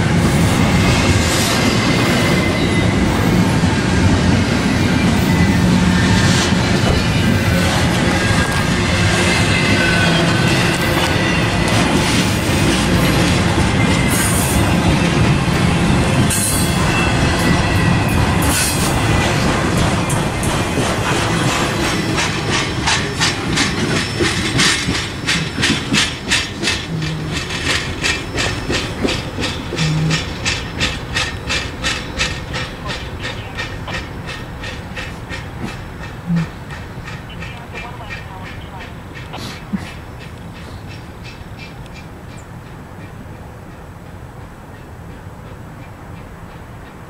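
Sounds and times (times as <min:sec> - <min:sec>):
freight train wheels rumbling: 0:00.0 - 0:47.0
wheels clicking over rail joints: 0:01.1 - 0:47.0.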